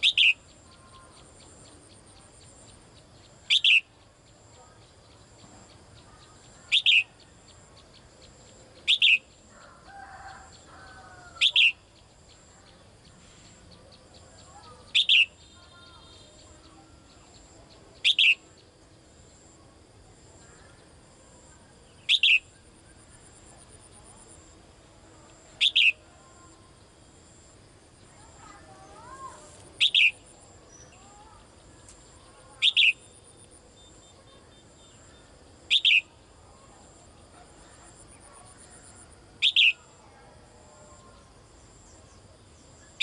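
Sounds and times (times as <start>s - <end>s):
songbird calling: 0.0s - 19.6s, 20.3s - 24.6s, 25.2s - 40.1s.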